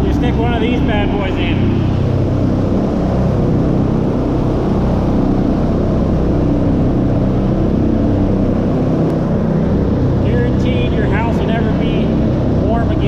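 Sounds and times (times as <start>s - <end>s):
exhaust fans rushing air: 0.0s - 13.0s
low motor hum: 0.0s - 13.0s.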